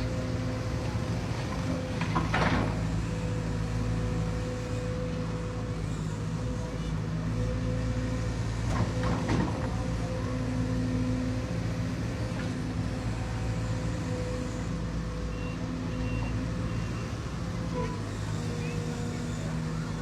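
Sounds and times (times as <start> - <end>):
diesel machinery engine running: 0.0 - 20.0.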